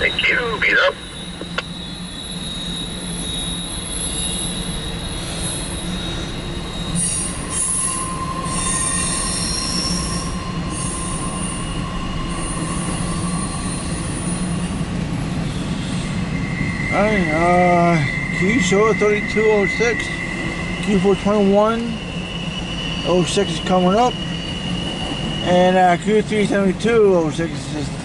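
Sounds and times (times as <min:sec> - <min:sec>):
high-pitched wheel squeal: 0:00.0 - 0:27.3
freight cars rumbling on rail: 0:00.0 - 0:28.0.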